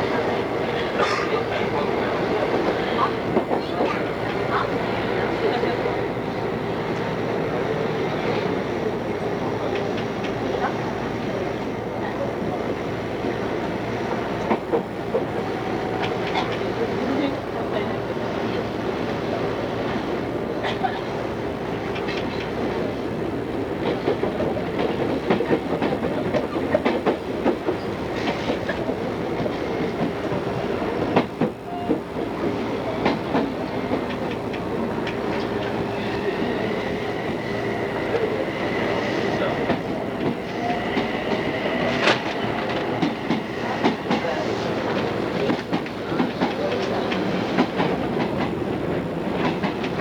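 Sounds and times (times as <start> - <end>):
electric train rumbling: 0.0 - 50.0.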